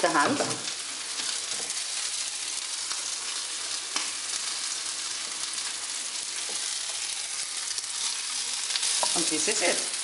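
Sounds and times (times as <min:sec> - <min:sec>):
hot fat sizzling: 0:00.0 - 0:10.0.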